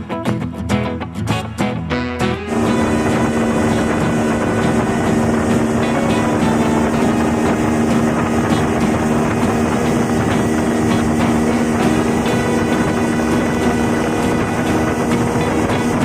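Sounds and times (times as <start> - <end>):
vehicle engine drone: 2.2 - 16.0
loud rushing noise: 2.5 - 16.0.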